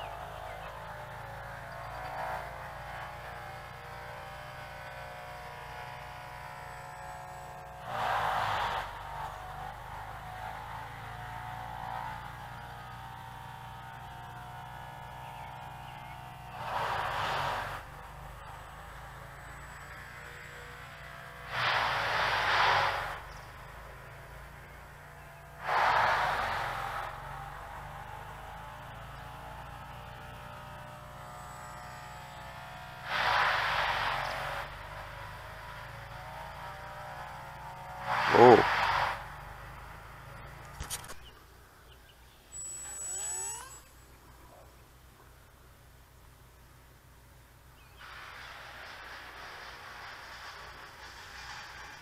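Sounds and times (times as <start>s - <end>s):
model plane motors whining: 0.0s - 44.8s
steady low hum: 0.0s - 48.0s.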